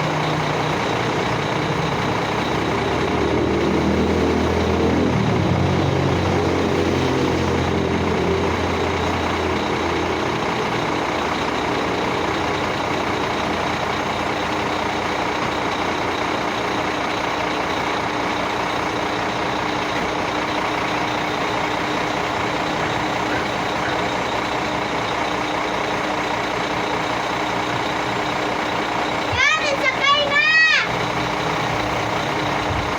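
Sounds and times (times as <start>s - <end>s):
heavy diesel engine running: 0.0s - 32.9s
road noise: 0.0s - 32.9s.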